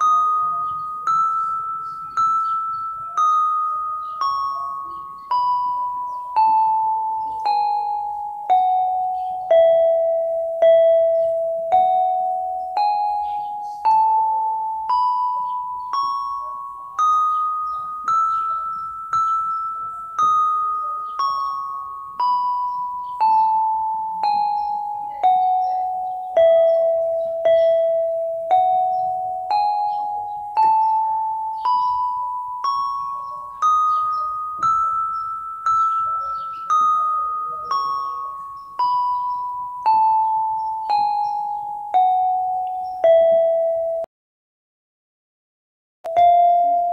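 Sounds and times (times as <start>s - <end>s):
electronic keyboard playing a scale: 0.0s - 44.1s, 46.1s - 46.9s.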